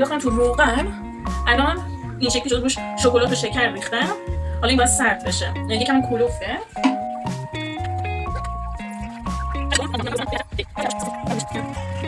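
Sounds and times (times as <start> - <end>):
held notes over bass line: 0.0 - 12.0.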